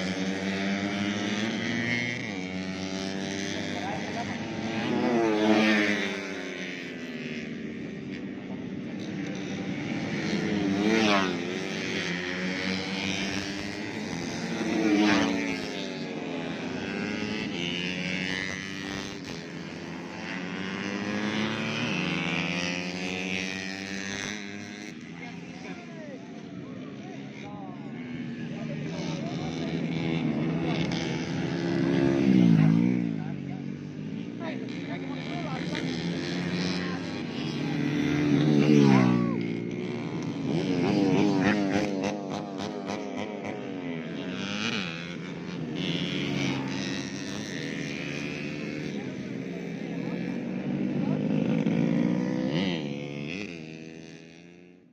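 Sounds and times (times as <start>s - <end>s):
motorcycle passing close: 0.0s - 54.9s
racing motorcycles revving: 0.0s - 54.9s.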